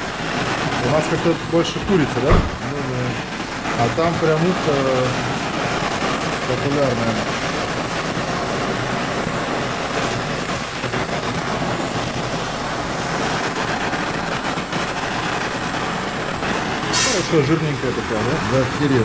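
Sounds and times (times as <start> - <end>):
gas torch hissing: 0.0 - 19.0.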